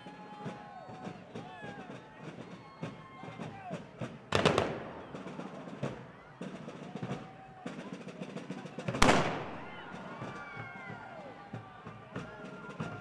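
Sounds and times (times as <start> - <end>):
field drums striking: 0.4 - 13.0.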